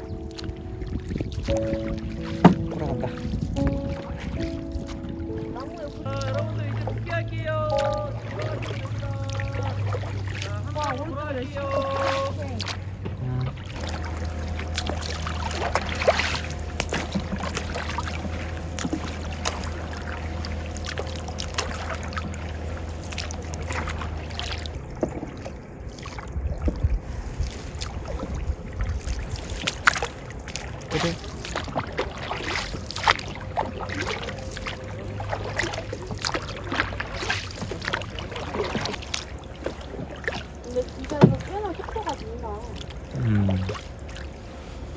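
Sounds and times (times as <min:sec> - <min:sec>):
paddle knocking against hull: 0:00.0 - 0:44.5
paddles splashing in water: 0:00.0 - 0:44.9
steady low hum: 0:00.0 - 0:44.9.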